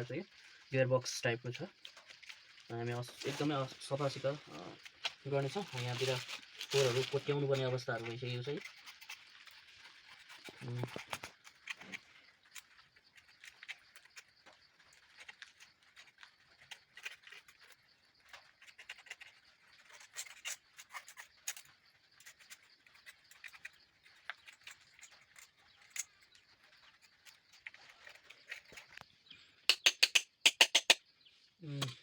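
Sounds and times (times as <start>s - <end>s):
scratching and small clicks: 1.4s - 29.1s, 29.7s - 31.0s.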